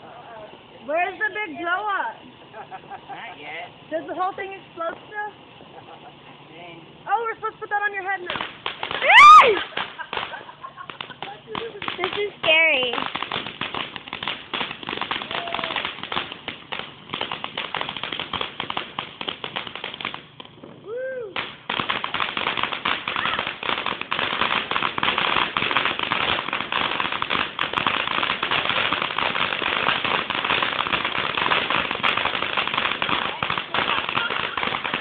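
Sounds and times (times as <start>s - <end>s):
firework fountain crackling: 0.0s - 35.0s.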